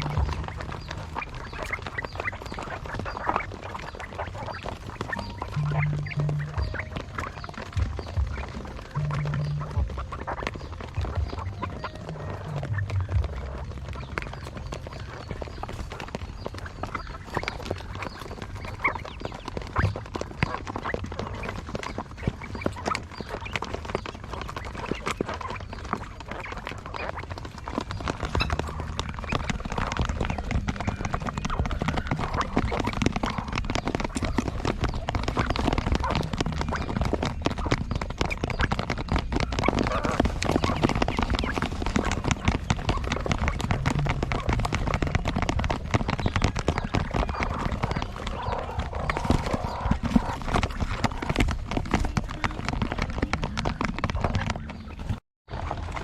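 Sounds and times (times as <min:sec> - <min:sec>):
quail flock clicking and calling: 0:00.0 - 0:56.0.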